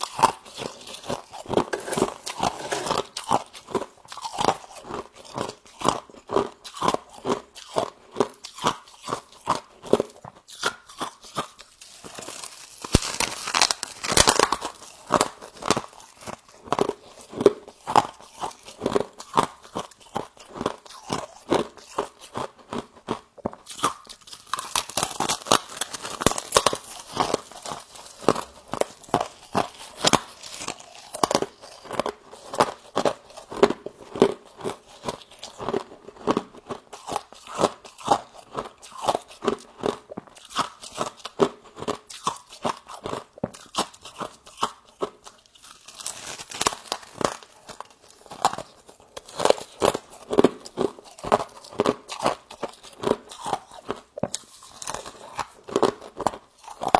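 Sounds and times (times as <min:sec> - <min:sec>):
frost being chewed: 0:00.0 - 0:56.9.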